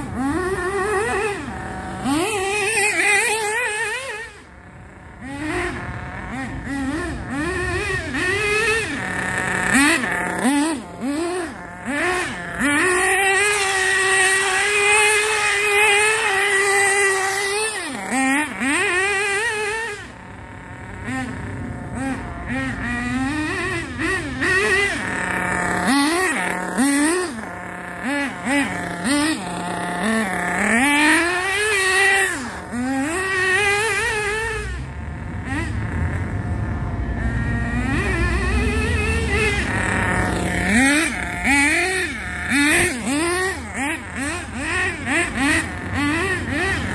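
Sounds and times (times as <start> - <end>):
model car engine revving: 0.0 - 46.9.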